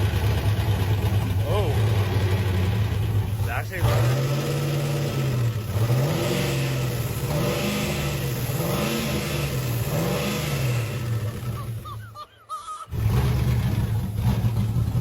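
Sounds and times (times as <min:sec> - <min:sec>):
engine revving: 0:00.0 - 0:12.0, 0:12.9 - 0:15.0.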